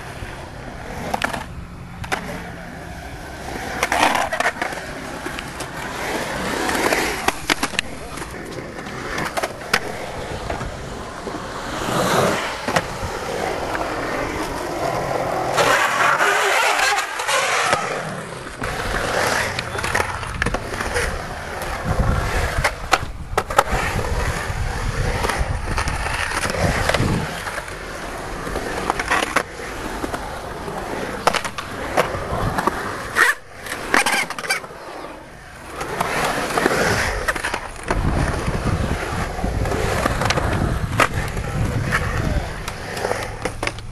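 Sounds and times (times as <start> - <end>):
skateboard clacks: 0.0 - 43.9
skateboard wheels rolling on concrete: 0.0 - 43.9.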